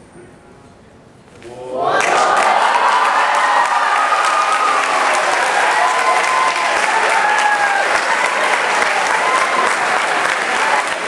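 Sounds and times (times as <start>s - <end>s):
voices cheering: 1.6s - 11.0s
hands clapping: 2.0s - 11.0s.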